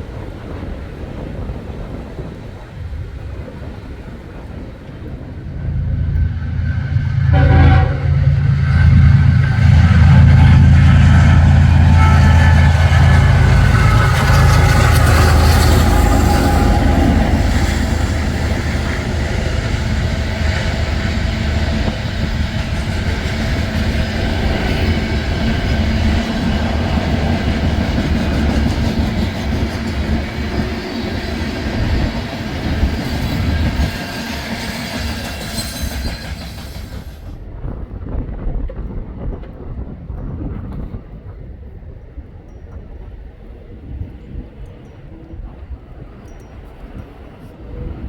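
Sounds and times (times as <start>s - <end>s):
freight train passing: 0.0s - 48.0s.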